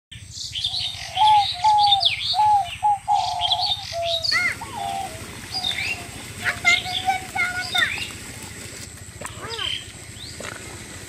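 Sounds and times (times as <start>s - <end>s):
birds chirping and twittering: 0.1s - 11.0s.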